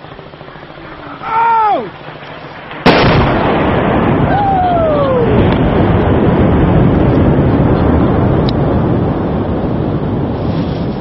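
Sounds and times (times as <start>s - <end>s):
loud rumble: 0.0s - 11.0s
mortar blast: 0.3s - 11.0s.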